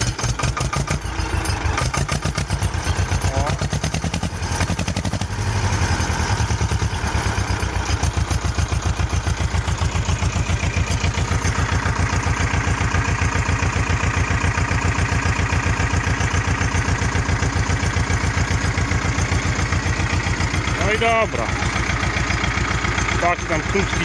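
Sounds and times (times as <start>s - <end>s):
diesel tractor idling: 0.0s - 24.0s.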